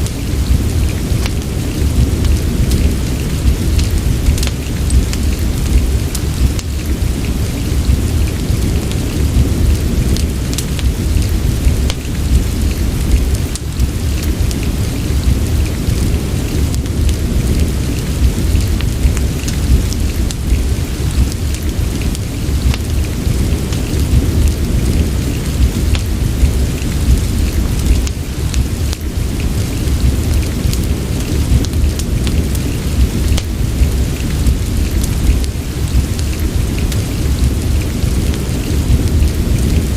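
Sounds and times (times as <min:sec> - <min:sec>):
crackling fireplace: 0:00.0 - 0:39.9
deep steady rumble: 0:00.0 - 0:39.9
steady rain: 0:00.0 - 0:39.9.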